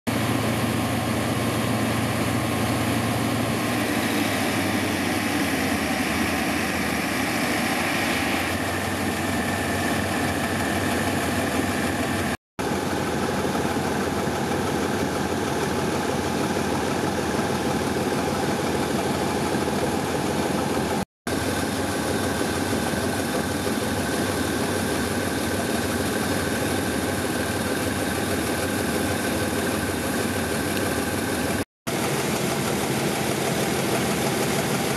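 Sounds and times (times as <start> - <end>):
locomotive idling: 0.1 - 34.9.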